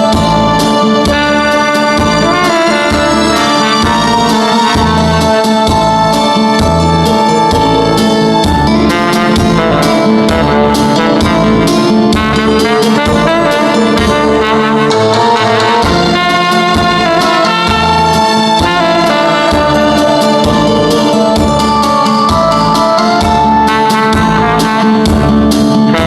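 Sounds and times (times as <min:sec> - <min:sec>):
bass and drum backing track: 0:00.0 - 0:26.0
tenor saxophone melody: 0:00.0 - 0:26.0.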